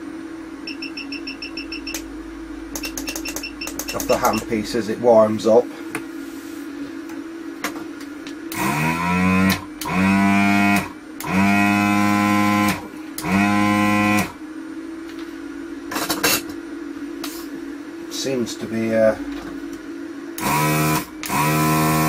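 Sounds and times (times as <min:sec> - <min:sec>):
constant low hum: 0:00.0 - 0:22.0
vacuum pump whining drone: 0:00.0 - 0:22.0.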